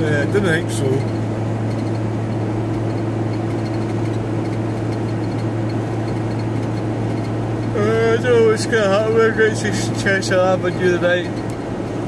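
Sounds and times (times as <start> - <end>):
constant low hum: 0.0 - 12.0
van engine and road noise: 0.0 - 12.0.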